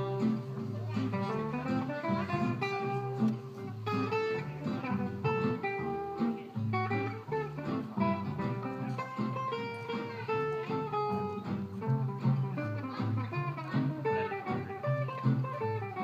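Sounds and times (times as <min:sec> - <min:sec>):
strummed acoustic guitar: 0:00.0 - 0:16.0
walking upright bass: 0:00.0 - 0:16.0.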